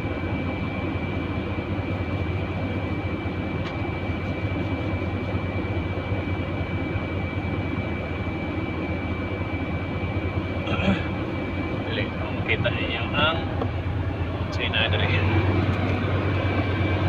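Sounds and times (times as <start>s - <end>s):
high-pitched whine: 0.0s - 17.0s
truck engine rumbling: 1.4s - 17.0s.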